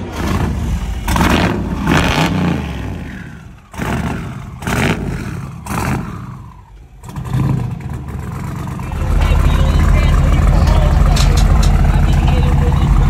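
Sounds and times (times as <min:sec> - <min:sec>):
car engine revving over idle: 0:00.0 - 0:13.0.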